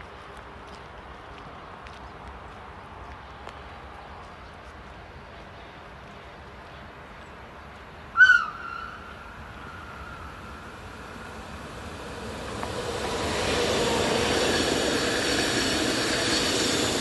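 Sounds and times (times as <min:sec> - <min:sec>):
train rolling on rails: 0:00.0 - 0:17.0.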